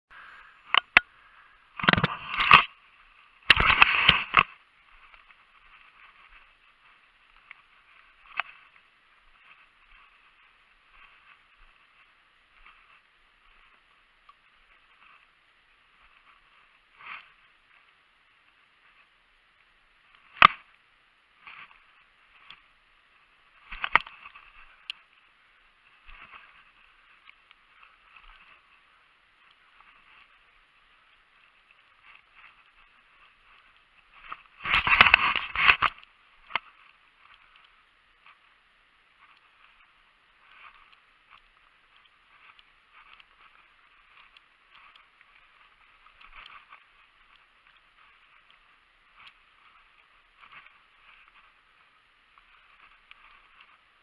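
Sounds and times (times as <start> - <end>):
rustling through long grass: 0.1 - 54.0.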